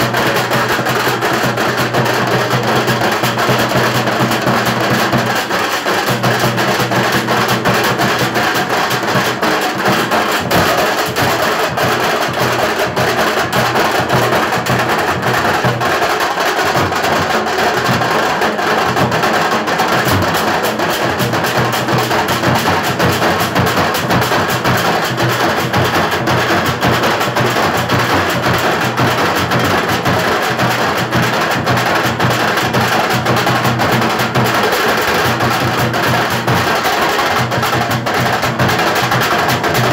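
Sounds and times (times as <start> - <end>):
metal drums beaten with sticks: 0.0 - 39.9.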